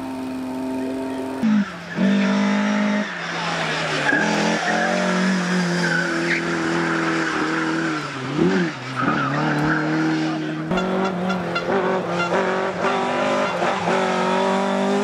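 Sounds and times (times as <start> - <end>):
rally car engine revving: 0.0 - 15.0
tyres skidding: 0.0 - 15.0.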